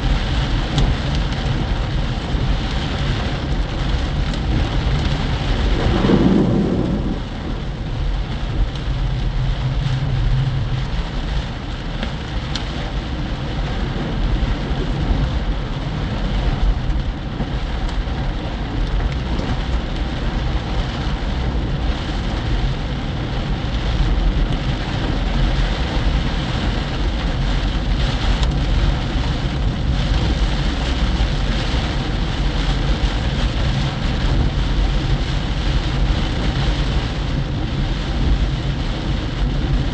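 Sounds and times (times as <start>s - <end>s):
heavy rain pelting a car: 0.0s - 39.9s
low road rumble: 0.0s - 39.9s.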